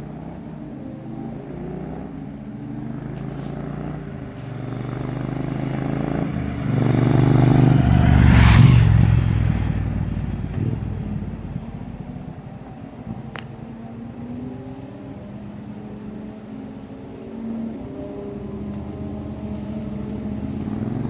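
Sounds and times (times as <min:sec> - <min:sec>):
motorcycle exhaust running: 0:00.0 - 0:21.0.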